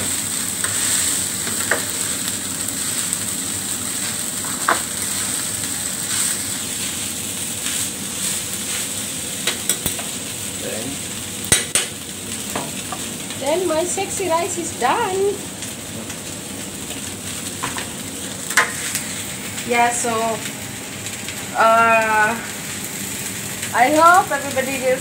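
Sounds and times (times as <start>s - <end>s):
fried rice sizzling on griddle: 0.0s - 25.0s.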